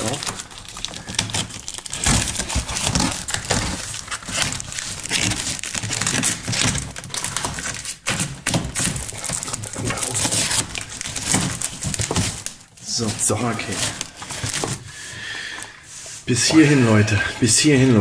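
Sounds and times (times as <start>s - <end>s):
packing tape and cardboard crackling: 0.0s - 18.0s.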